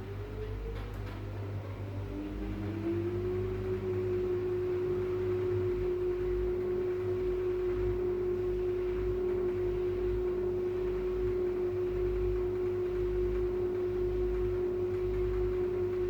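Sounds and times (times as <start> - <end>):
washing machine spin cycle: 0.0 - 16.0.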